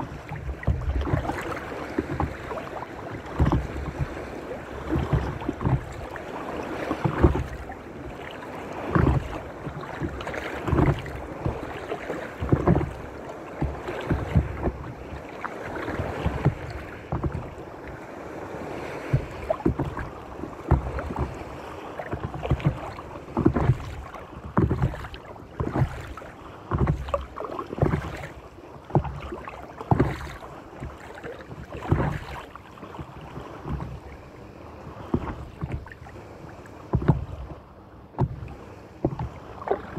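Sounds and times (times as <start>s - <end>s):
paddle splashing through water: 0.0s - 39.9s
small waves washing: 0.0s - 39.9s.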